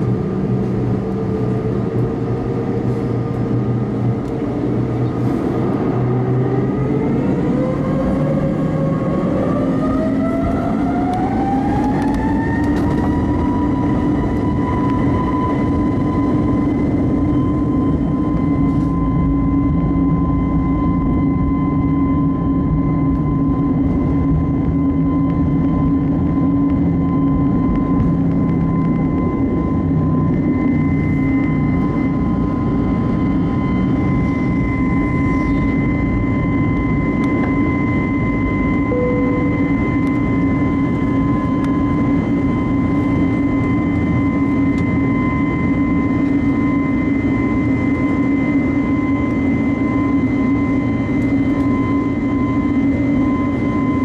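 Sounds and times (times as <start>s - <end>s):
constant low rumble: 0.0s - 54.0s
jet engines whining: 0.0s - 54.0s.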